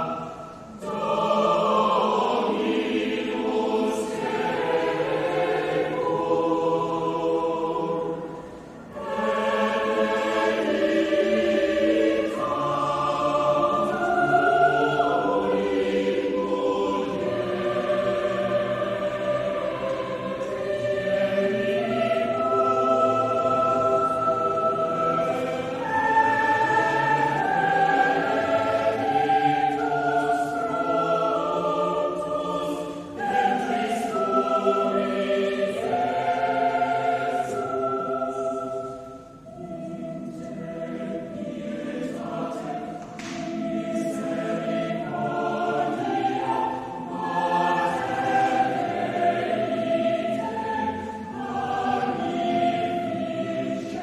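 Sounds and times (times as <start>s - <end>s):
choir singing held notes: 0.0s - 54.0s.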